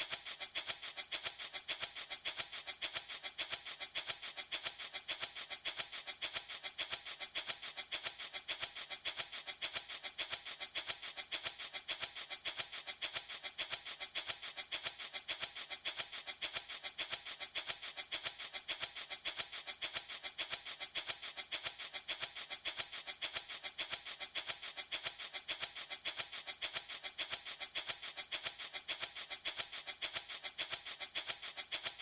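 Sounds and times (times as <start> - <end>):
baby rattle shaking: 0.0 - 32.0.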